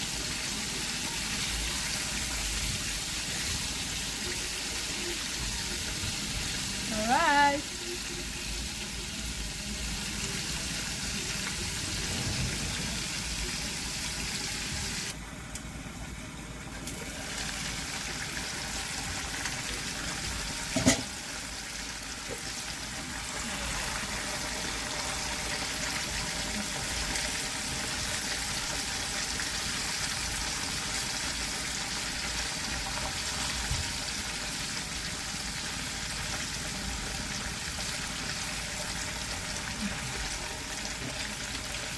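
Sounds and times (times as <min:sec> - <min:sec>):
chicken frying in hot oil: 0:00.0 - 0:41.9.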